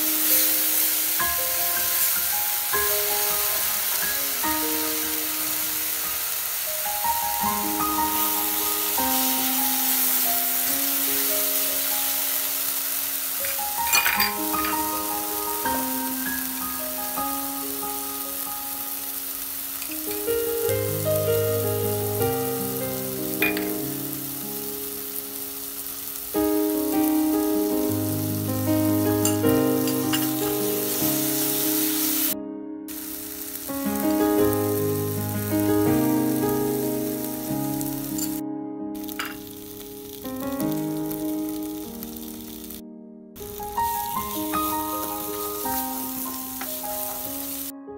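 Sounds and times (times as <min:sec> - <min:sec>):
paste sizzling in a pan: 0:00.0 - 0:38.4, 0:39.0 - 0:42.8, 0:43.4 - 0:47.7
instrumental background music: 0:00.0 - 0:42.8, 0:43.4 - 0:47.9.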